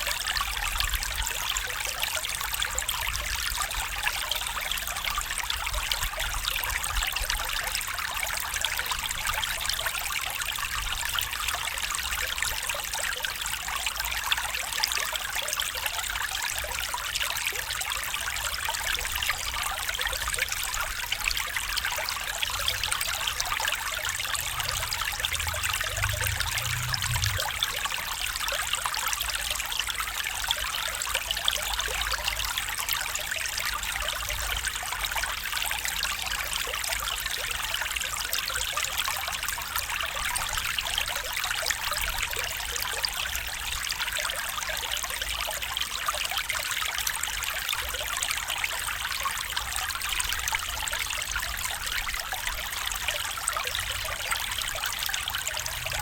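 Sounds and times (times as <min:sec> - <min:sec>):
stream trickling: 0:00.0 - 0:56.0.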